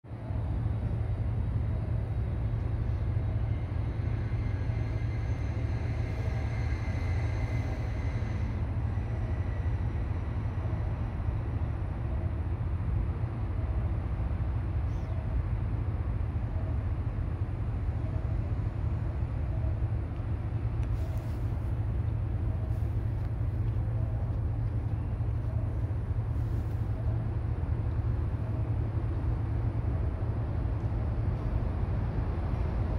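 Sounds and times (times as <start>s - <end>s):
low rumble and hum: 0.0s - 32.9s
faint high whining tones: 0.1s - 32.9s.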